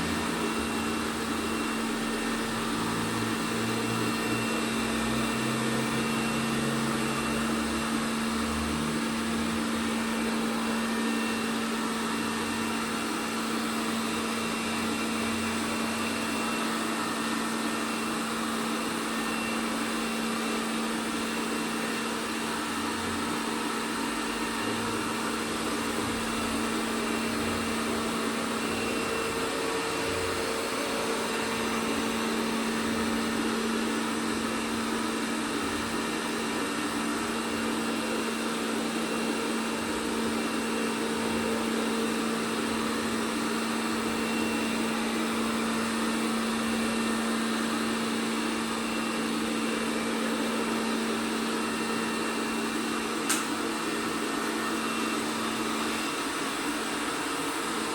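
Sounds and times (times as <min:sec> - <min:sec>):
robot vacuum cleaner humming: 0:00.0 - 0:57.9.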